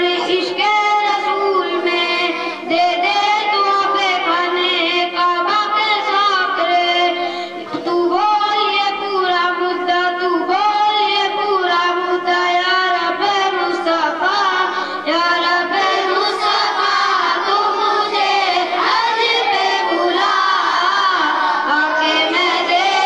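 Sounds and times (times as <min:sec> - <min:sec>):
boy singing into a microphone: 0:00.0 - 0:23.0.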